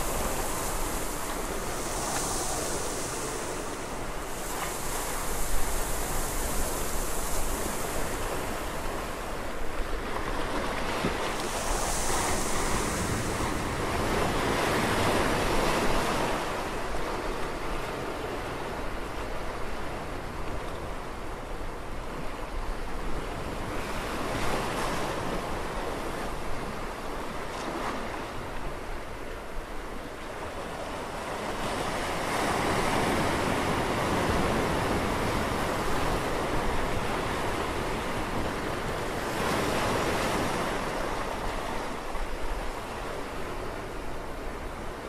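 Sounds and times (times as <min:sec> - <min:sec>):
sea waves surging and washing back: 0:00.0 - 0:45.0.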